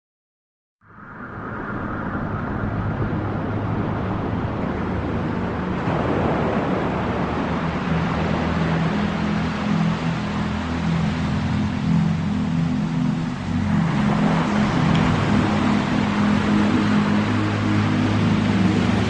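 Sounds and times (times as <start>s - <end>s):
electronic background music: 2.4s - 19.0s.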